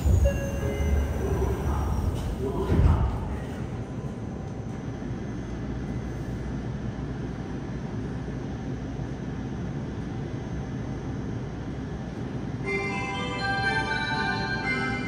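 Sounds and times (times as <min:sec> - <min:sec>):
faint steady whines: 0:00.0 - 0:15.0
subway car hum: 0:00.0 - 0:15.0.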